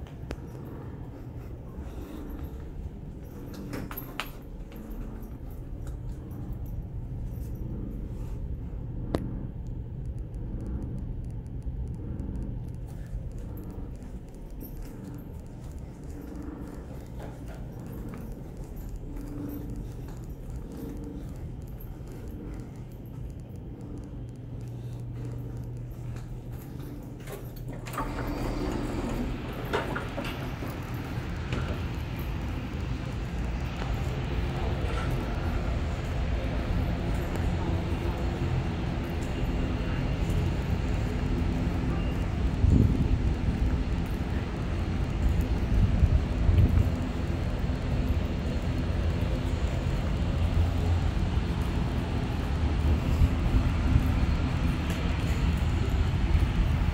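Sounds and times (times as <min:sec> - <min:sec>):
low outdoor rumble: 0:00.0 - 0:56.9
quiet indoor hum: 0:00.0 - 0:56.9.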